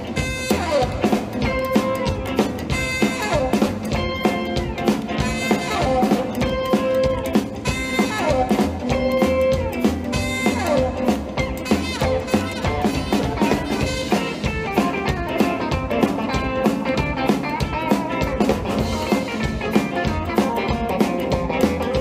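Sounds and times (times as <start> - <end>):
drum kit: 0.0 - 22.0
electric guitars: 0.0 - 22.0
upright bass: 0.0 - 22.0.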